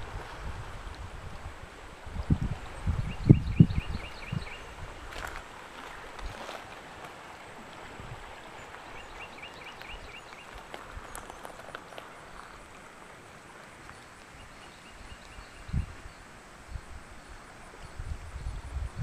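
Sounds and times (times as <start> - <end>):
river water rushing: 0.0 - 3.0, 4.0 - 17.8.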